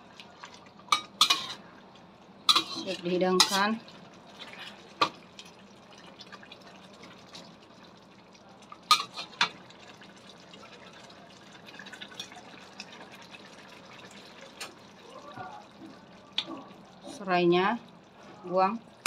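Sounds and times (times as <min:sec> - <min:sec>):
thick sauce bubbling in a wok: 0:00.0 - 0:19.0.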